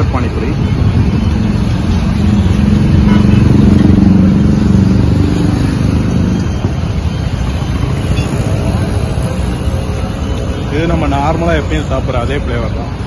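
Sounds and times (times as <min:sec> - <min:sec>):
low rumble of traffic: 0:00.0 - 0:13.0
vehicle engine passing by: 0:00.8 - 0:12.0.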